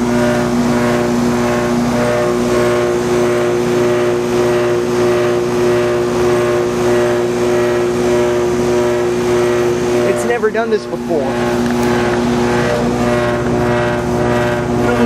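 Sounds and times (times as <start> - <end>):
heat pump compressor droning hum: 0.0 - 15.0.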